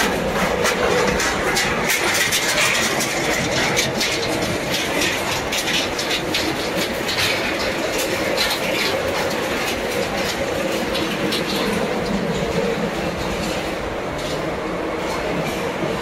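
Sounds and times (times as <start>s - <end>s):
crushed metal clatter: 0.0s - 14.4s.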